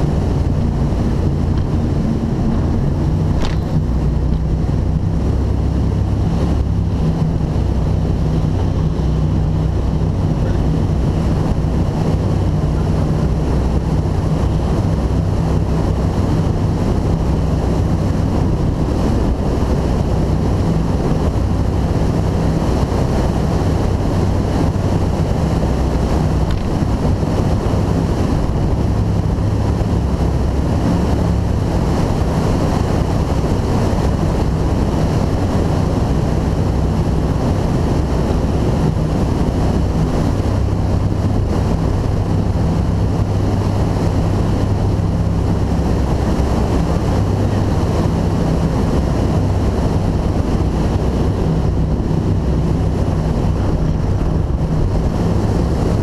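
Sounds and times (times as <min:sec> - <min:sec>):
powerboat engine drone: 0:00.0 - 0:56.0
water rushing against hull: 0:00.0 - 0:56.0
wind buffeting microphone: 0:00.0 - 0:56.0.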